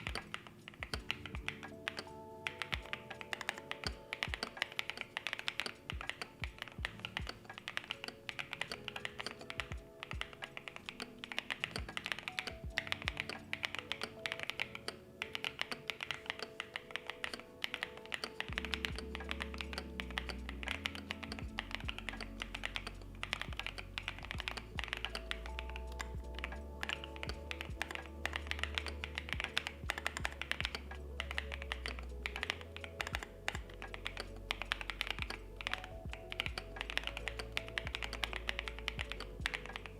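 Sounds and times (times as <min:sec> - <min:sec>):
background music: 0:00.0 - 0:39.9
mechanical keyboard typing: 0:00.0 - 0:39.9.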